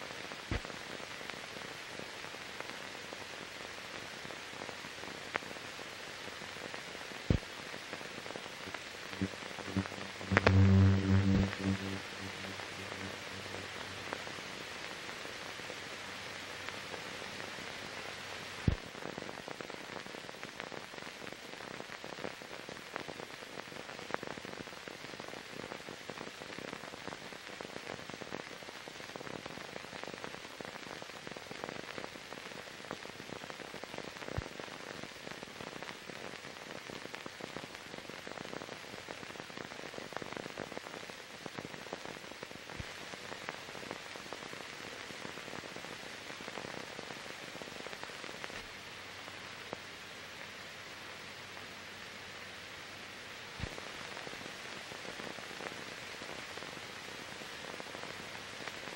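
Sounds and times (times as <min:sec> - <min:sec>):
film soundtrack hiss: 0:00.0 - 0:58.9
crackles and clicks: 0:00.1 - 0:32.1, 0:32.8 - 0:50.8, 0:53.5 - 0:58.9.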